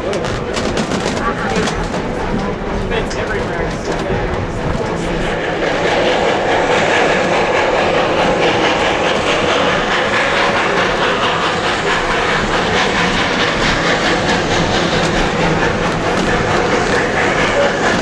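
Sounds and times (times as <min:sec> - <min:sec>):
light rail clatter: 0:00.0 - 0:18.0
train wheels rumbling on rails: 0:00.0 - 0:18.0.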